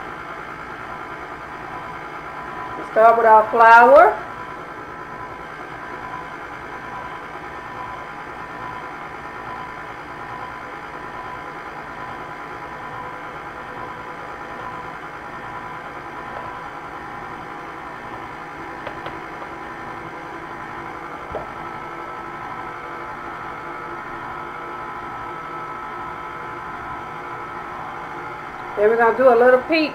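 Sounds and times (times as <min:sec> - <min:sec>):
stand mixer motor whirring: 0:00.0 - 0:29.9.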